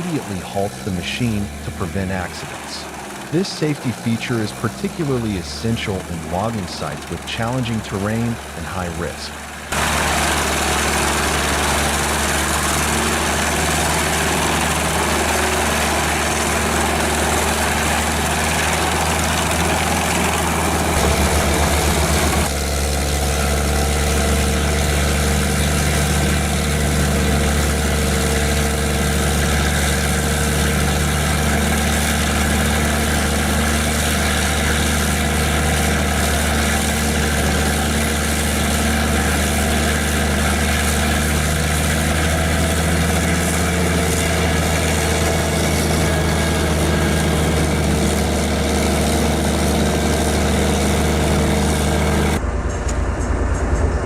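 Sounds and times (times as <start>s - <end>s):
wood grinding and shredding: 0.0s - 52.4s
wood chipper engine drone: 0.0s - 54.0s.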